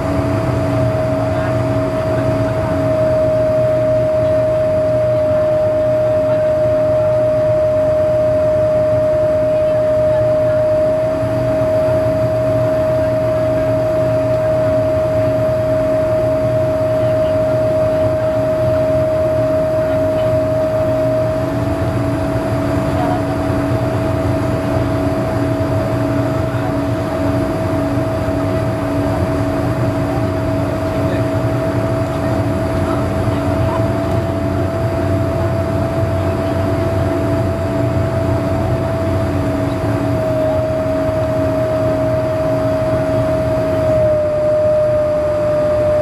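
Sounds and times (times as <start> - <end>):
cabin rushing roar: 0.0 - 46.0
jet engines whining: 0.0 - 46.0
low pulsing hum: 0.0 - 46.0.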